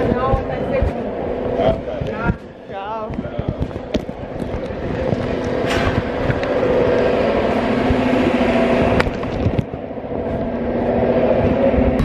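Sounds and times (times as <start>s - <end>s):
motor drone: 0.0s - 12.0s.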